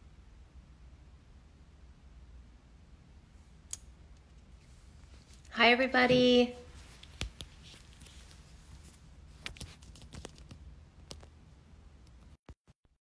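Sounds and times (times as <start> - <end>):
low steady hum: 0.0 - 12.4.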